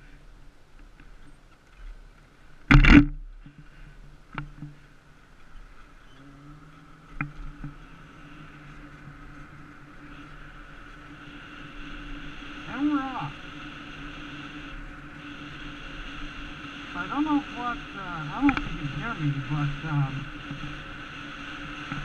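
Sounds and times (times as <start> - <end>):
muffled vehicle hum: 0.0 - 22.0.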